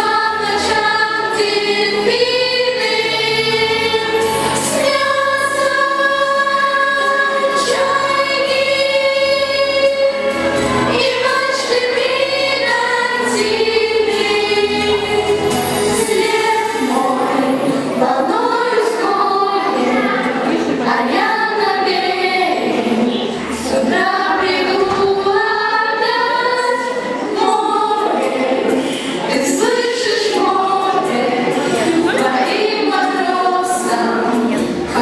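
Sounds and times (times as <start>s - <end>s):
children's choir singing: 0.0s - 35.0s.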